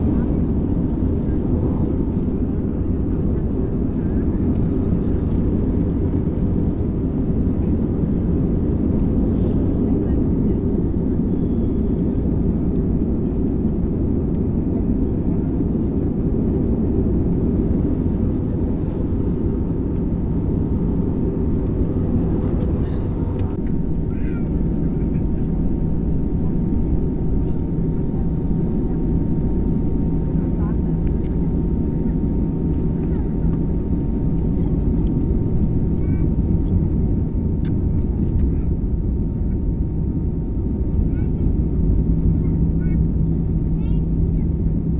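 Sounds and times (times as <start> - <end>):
airliner cabin engine and airflow noise: 0.0 - 44.9.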